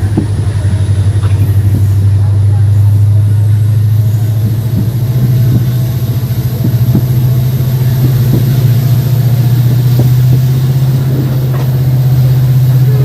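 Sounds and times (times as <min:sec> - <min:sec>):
diesel locomotive engine humming: 0:00.0 - 0:13.0.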